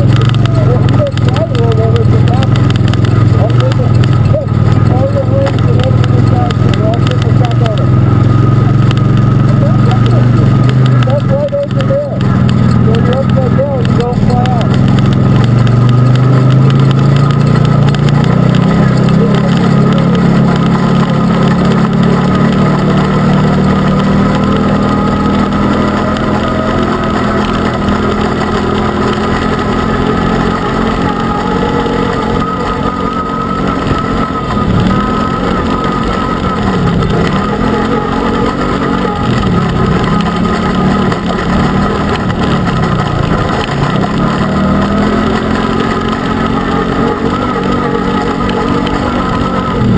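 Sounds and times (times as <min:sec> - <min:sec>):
utility vehicle engine driving: 0:00.0 - 0:49.9.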